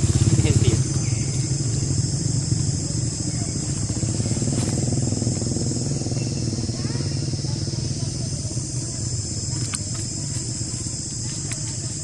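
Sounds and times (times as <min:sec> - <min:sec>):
high insect drone: 0:00.0 - 0:12.0
steady low rumble: 0:00.0 - 0:12.0.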